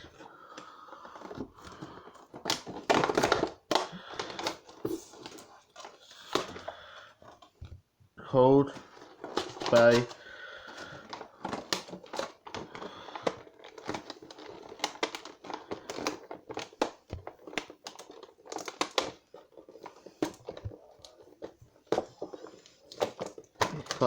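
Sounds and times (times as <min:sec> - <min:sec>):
plastic packaging crinkling: 0:00.0 - 0:07.5, 0:08.5 - 0:24.0.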